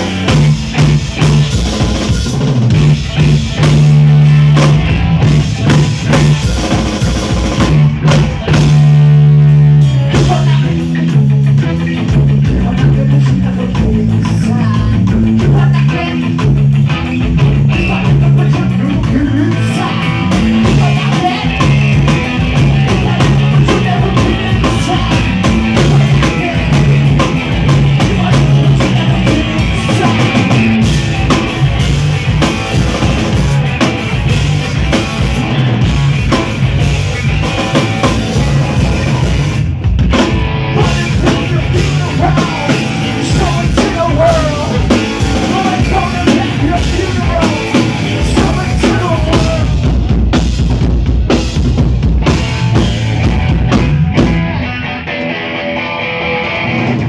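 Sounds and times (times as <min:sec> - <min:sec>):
electric guitar riff: 0:00.0 - 0:12.8, 0:13.6 - 0:57.0
drum kit: 0:00.0 - 0:57.0.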